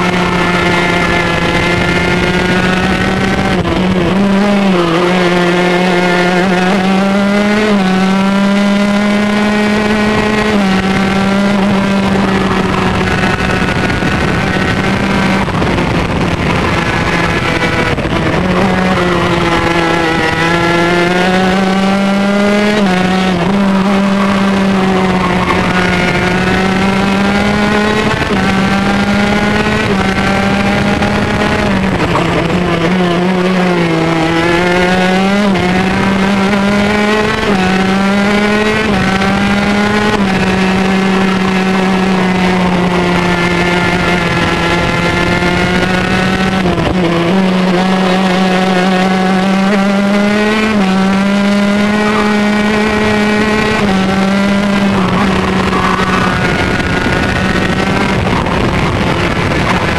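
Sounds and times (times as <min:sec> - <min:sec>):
two-stroke kart engine revving: 0:00.0 - 0:59.9.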